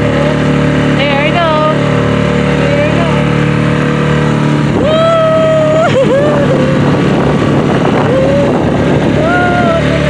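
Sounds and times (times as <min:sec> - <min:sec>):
outboard motor running: 0:00.0 - 0:10.0
water and wind rushing: 0:00.0 - 0:10.0.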